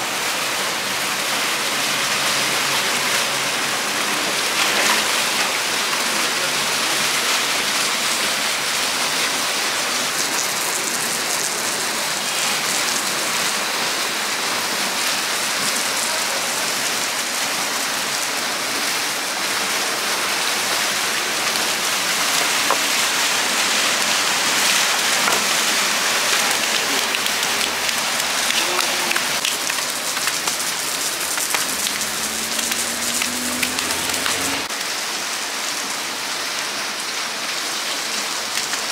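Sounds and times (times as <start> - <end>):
water splashing and churning: 0.0 - 35.7.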